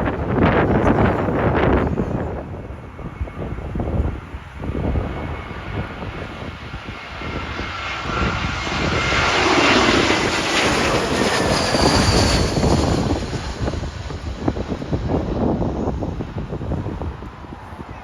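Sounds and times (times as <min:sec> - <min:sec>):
jet airliner passing overhead: 0:00.0 - 0:18.0
wind buffeting microphone: 0:00.0 - 0:18.0
faint engine whine: 0:01.9 - 0:18.0.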